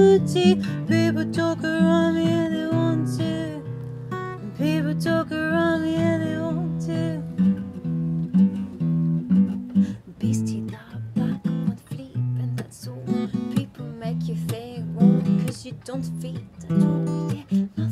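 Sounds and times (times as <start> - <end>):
woman singing: 0.0 - 7.7, 9.8 - 17.9
acoustic guitar: 0.0 - 17.9.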